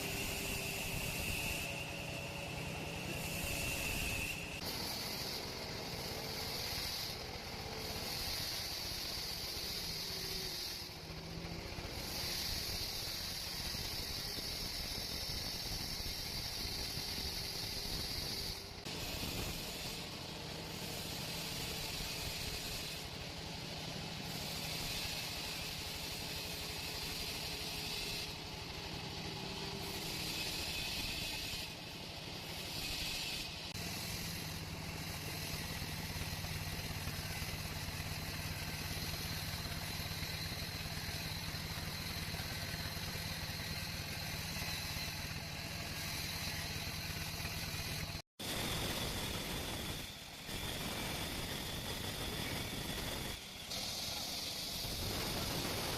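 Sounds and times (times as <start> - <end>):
sawmill machinery humming: 0.0 - 55.9.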